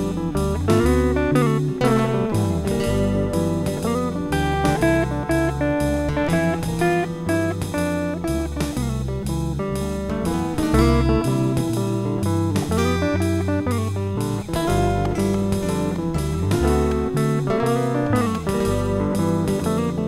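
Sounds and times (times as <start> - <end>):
bass: 0.0 - 20.0
guitar: 0.0 - 20.0
steady drum beat: 0.0 - 20.0.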